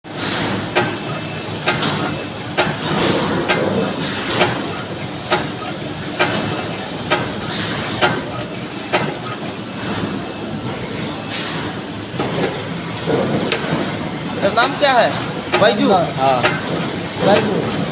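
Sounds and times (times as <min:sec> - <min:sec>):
machine running with sharp clacks: 0:00.1 - 0:17.9.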